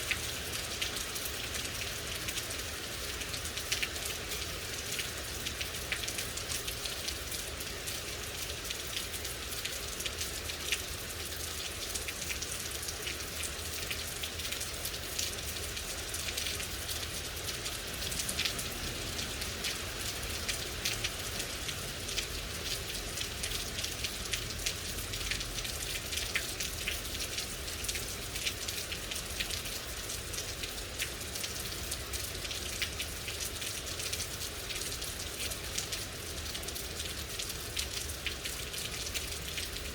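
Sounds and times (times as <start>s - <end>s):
rain falling: 0.0s - 39.9s
raindrops pattering: 0.0s - 39.9s.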